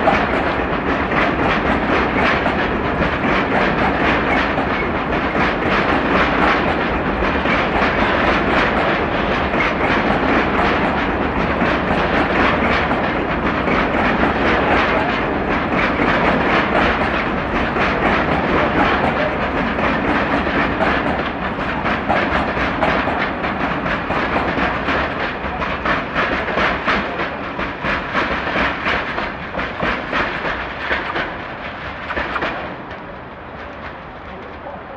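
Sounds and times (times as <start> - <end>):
freight train wheels clattering: 0.0 - 34.9.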